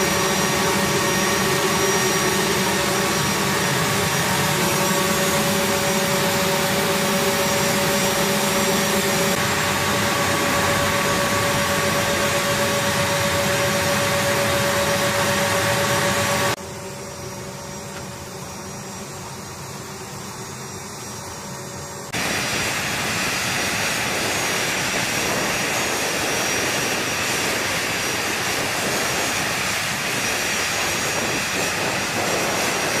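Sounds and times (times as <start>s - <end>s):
turbine engine humming: 0.0s - 33.0s.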